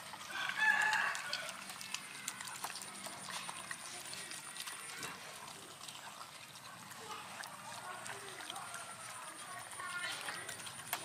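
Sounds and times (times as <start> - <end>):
dogs chewing and licking: 0.0 - 11.0.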